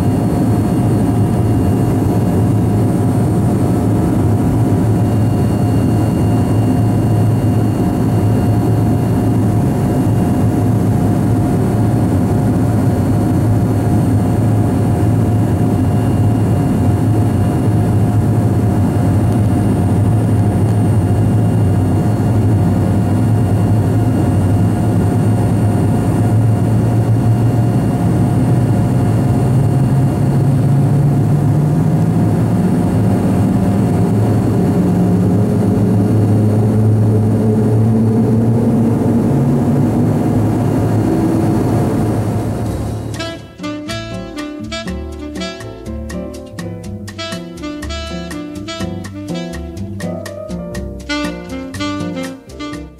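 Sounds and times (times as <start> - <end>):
thin steady whines: 0.0 - 43.9
jet engine cabin drone: 0.0 - 45.8.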